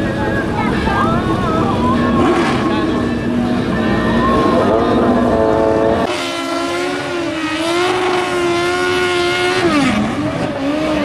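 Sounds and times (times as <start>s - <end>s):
racing engine revving: 0.0s - 11.0s.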